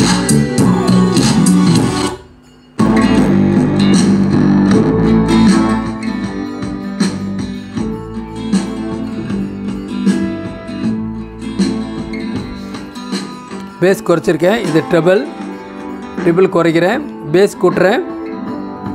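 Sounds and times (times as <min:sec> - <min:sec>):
recorded song playing: 0:00.0 - 0:18.9.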